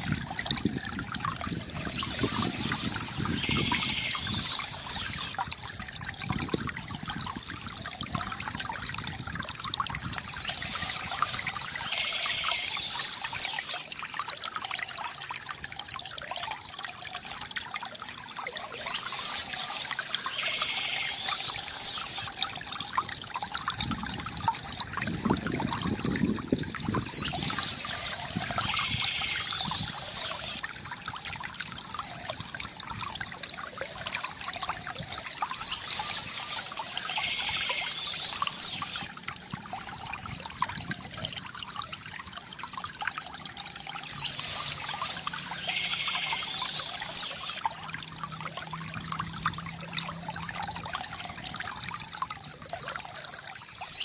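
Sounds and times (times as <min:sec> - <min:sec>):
stream water trickling over stones: 0:00.0 - 0:54.0.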